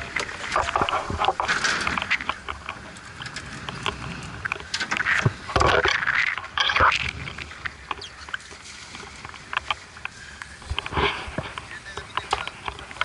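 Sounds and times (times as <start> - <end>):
clatter on boat deck: 0.0 - 13.0
water splashing: 0.0 - 13.0
wind: 0.0 - 13.0.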